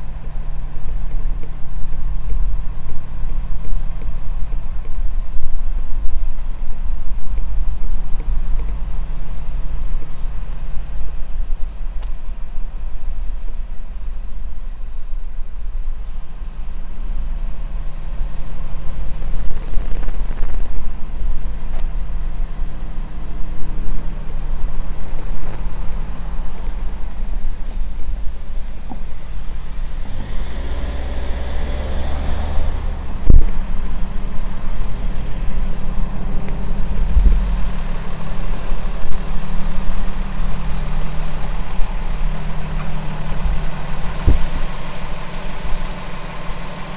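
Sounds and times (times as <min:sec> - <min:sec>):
heavy vehicle engine rumble: 0:00.0 - 0:46.9.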